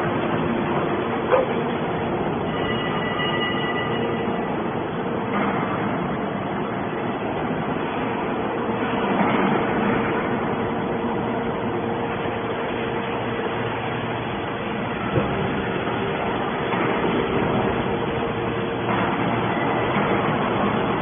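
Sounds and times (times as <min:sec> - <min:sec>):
hydraulic power unit drone: 0:00.0 - 0:21.0.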